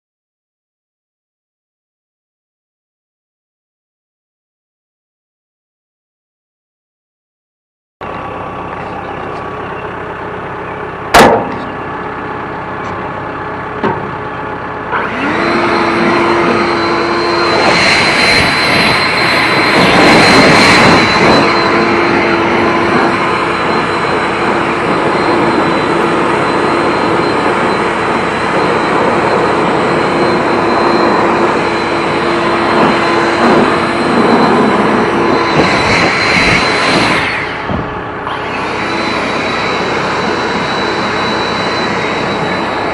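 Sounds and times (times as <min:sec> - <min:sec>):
machine engine running: 0:08.0 - 0:42.9.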